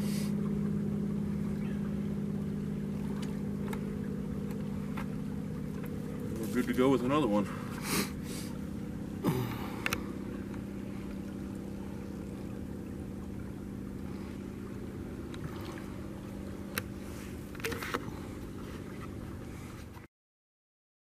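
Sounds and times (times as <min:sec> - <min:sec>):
creek running: 0:00.0 - 0:20.0
faint steady hum: 0:00.0 - 0:20.0.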